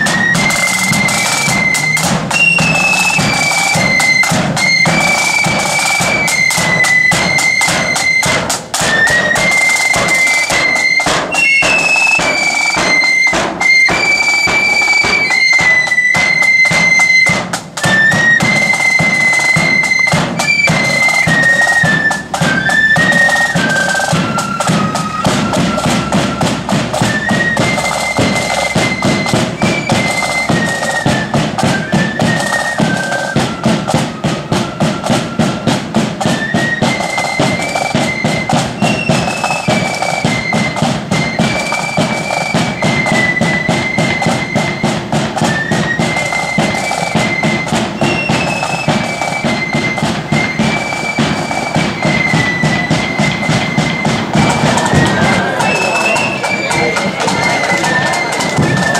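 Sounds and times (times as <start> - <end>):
flute band playing: 0.0 - 58.9
marching drums beating: 0.0 - 58.9.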